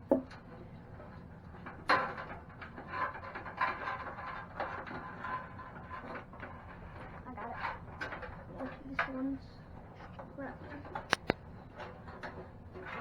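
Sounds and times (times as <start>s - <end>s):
cables scraping and rustling: 1.0s - 13.0s.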